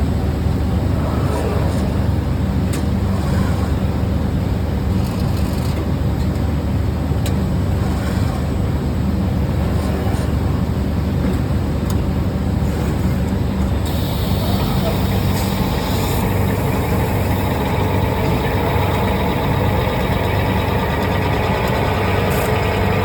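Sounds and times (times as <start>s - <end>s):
machinery hum and rumble: 0.0s - 23.0s.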